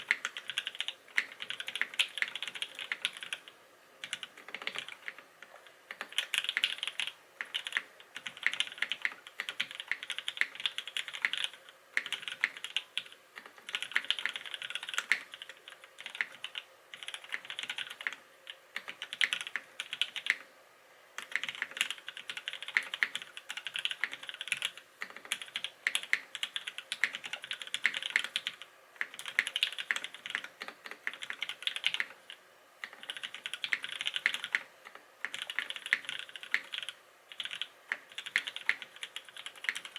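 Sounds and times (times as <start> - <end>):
mechanical keyboard typing: 0.0 - 20.4, 21.2 - 39.9.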